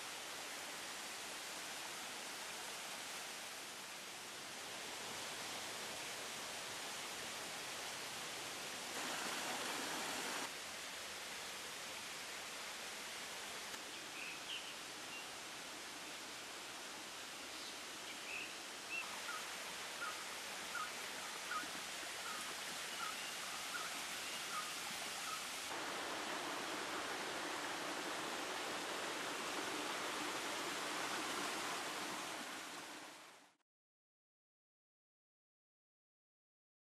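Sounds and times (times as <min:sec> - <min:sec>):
waterfall rushing over rock: 0:00.0 - 0:33.6.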